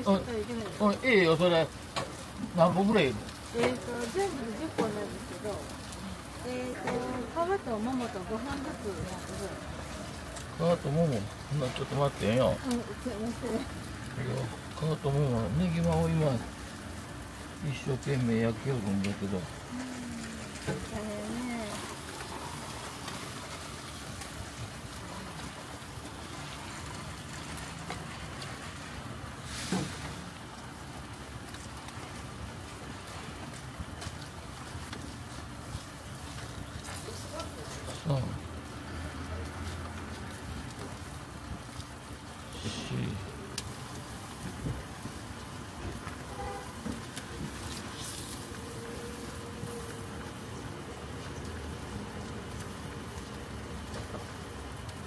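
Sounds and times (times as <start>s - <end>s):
skewers sizzling on a grill: 0.0s - 55.0s.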